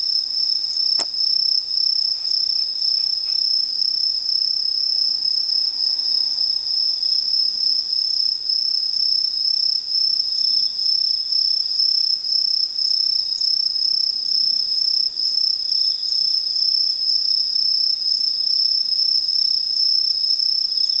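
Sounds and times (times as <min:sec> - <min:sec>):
chorus of insects pulsing: 0:00.0 - 0:21.0
insect high-pitched trill: 0:00.0 - 0:21.0.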